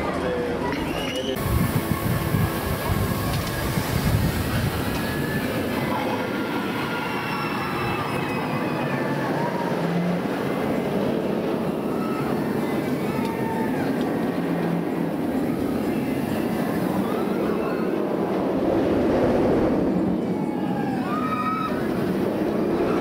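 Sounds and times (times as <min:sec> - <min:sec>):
roller coaster wheels rumbling on rails: 0:00.0 - 0:23.0.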